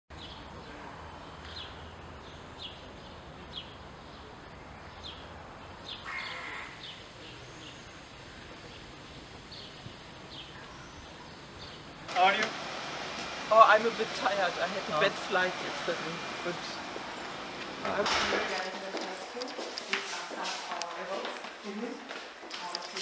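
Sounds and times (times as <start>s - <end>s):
birds chirping: 0.1s - 23.0s
outdoor background hiss: 0.2s - 23.0s.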